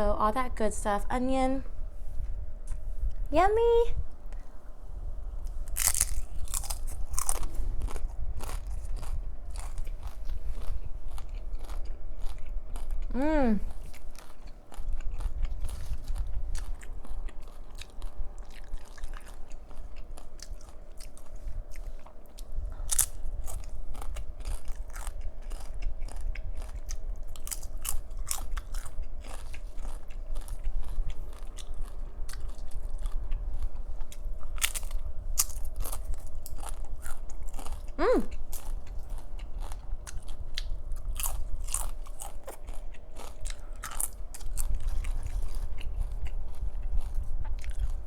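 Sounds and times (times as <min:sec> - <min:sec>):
chewing and crunching chips: 0:05.3 - 0:48.0.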